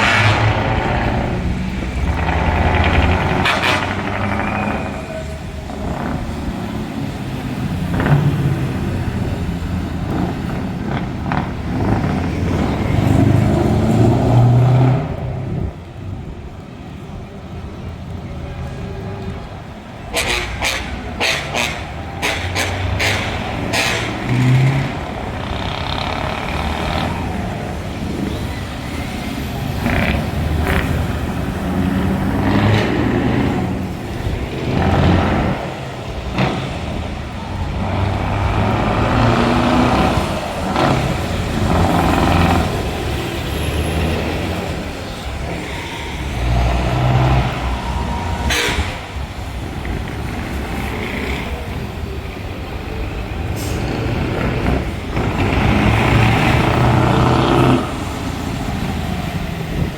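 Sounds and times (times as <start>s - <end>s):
truck engines revving loudly: 0.0s - 59.9s.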